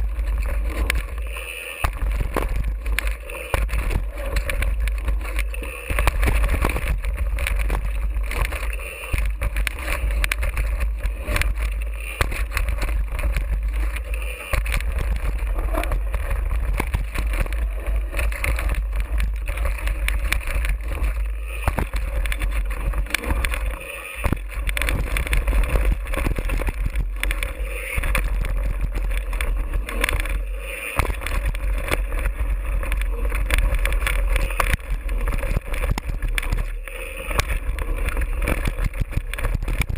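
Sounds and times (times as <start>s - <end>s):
bike rattling and knocking: 0.0s - 39.9s
tyres crunching over dirt: 0.0s - 39.9s
wind rumbling on microphone: 0.0s - 39.9s.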